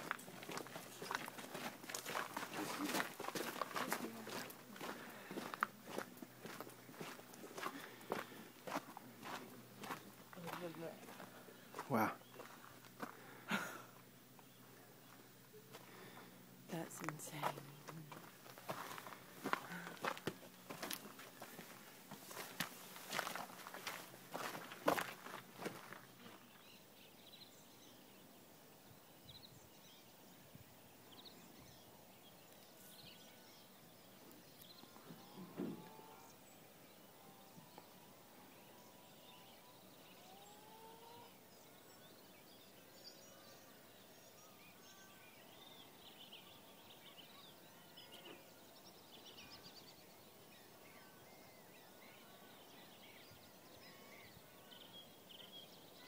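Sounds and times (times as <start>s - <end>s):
background hiss: 0.0s - 56.0s
faint birdsong: 0.0s - 56.0s.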